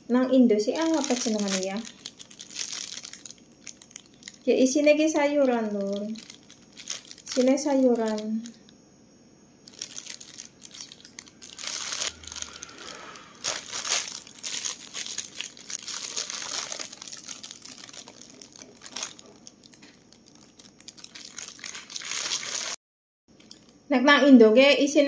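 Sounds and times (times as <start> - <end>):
plastic bag crinkling: 0.7 - 8.6, 9.6 - 23.8.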